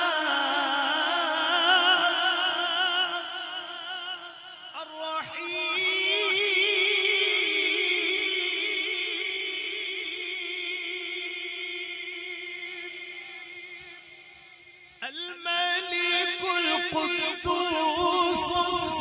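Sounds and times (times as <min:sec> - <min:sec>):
man chanting through a pa system: 0:00.0 - 0:19.0.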